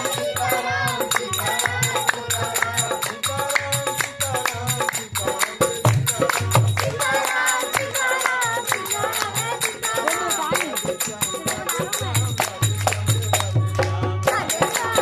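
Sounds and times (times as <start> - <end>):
percussion beat and drum pulses: 0.0 - 15.0
person singing: 0.0 - 15.0.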